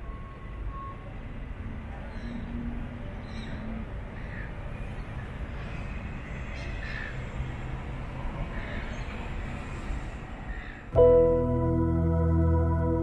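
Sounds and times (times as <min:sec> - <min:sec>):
steady low urban rumble: 0:00.0 - 0:13.0.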